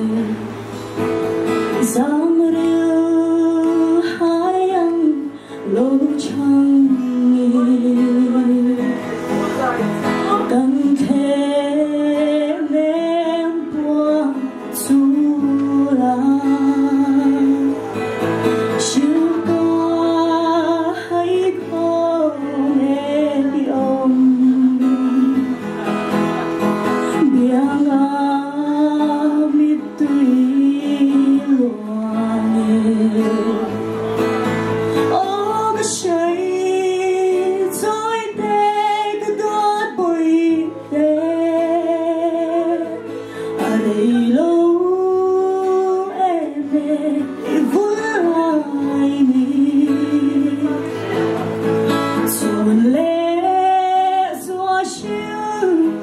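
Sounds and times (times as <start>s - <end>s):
guitar accompaniment: 0.0s - 56.0s
woman singing through microphone: 0.0s - 56.0s.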